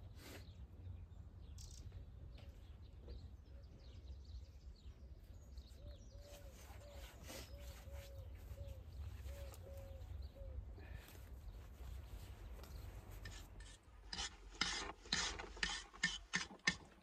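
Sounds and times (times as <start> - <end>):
birds calling: 0.3 - 17.0.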